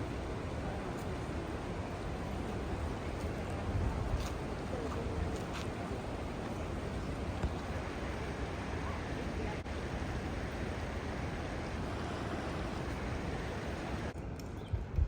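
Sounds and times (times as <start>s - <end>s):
fast-flowing water rushing: 0.0s - 14.2s.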